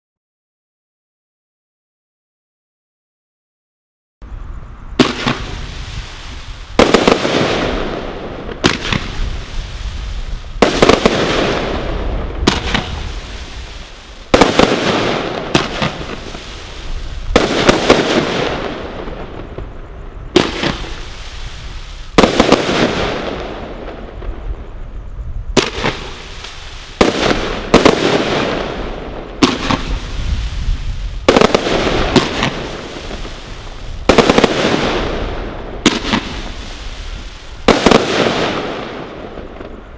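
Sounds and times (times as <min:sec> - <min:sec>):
firework shots with noisy tails: 0:04.9 - 0:39.9.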